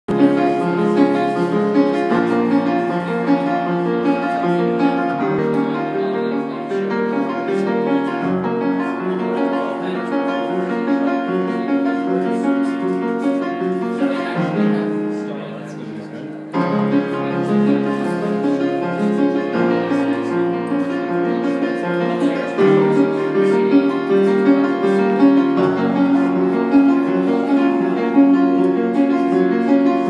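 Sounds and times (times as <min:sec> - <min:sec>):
piano chords: 0:00.1 - 0:30.0.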